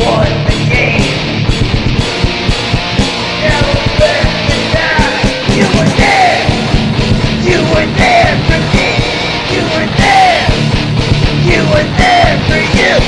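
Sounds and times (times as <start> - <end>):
distorted electric guitar: 0.0 - 13.0
driving drum beat: 0.0 - 13.0.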